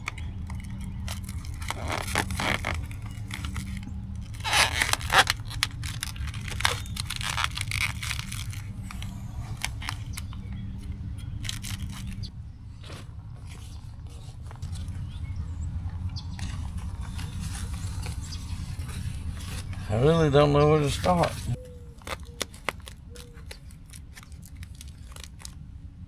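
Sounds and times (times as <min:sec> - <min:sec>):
insulation wrap crinkling: 0:00.0 - 0:12.3, 0:12.9 - 0:26.0
steady low rumble: 0:00.0 - 0:26.0.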